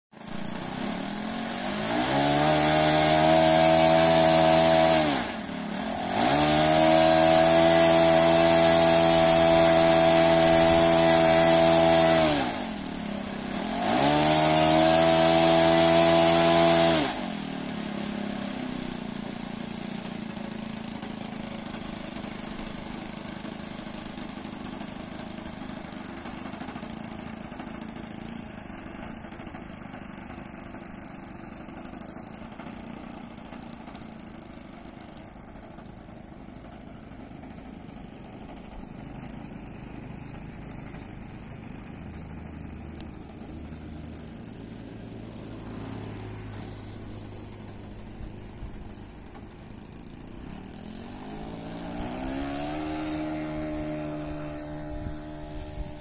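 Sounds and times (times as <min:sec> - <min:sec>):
model plane engine revving and idling: 0:00.1 - 0:56.0.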